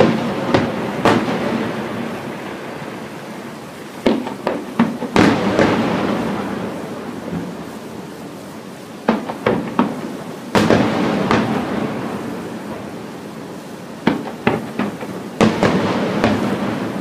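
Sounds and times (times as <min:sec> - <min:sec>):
firework boom with rolling echo: 0:00.0 - 0:03.4, 0:04.0 - 0:08.1, 0:09.1 - 0:13.1, 0:14.0 - 0:17.0
firework sharp bangs: 0:00.0 - 0:17.0.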